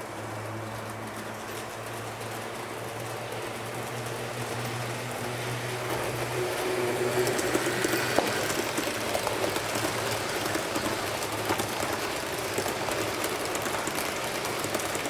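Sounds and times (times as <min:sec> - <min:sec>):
model train motor hum: 0:00.0 - 0:15.0
wheels rattling on track: 0:00.0 - 0:15.0.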